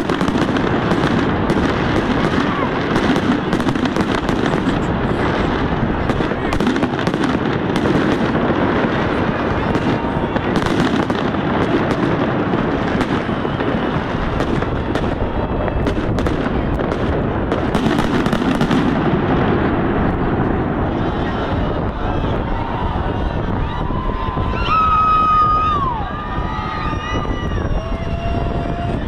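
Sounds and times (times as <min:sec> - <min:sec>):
fireworks bangs: 0:00.0 - 0:29.0
fireworks crackle: 0:00.0 - 0:29.0.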